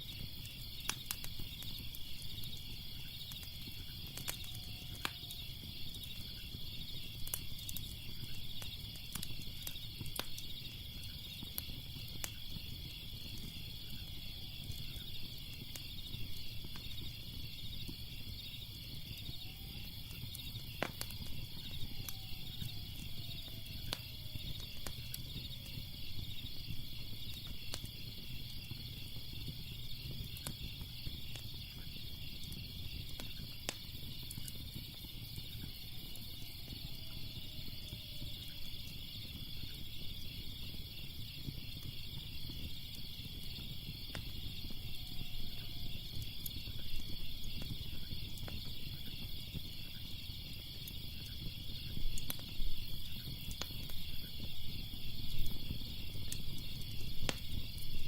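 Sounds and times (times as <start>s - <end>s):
crickets chirping: 0.0s - 58.0s
wood fire crackling: 0.0s - 58.0s.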